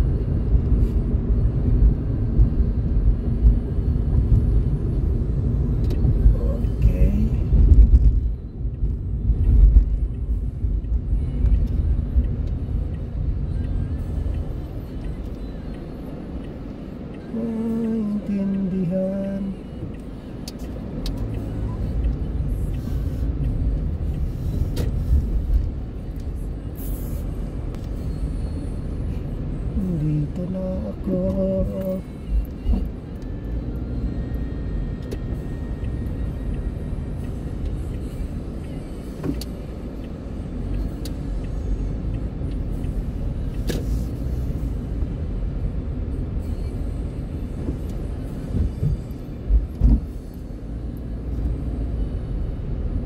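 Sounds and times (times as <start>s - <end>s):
car road noise rumble: 0.0s - 53.0s.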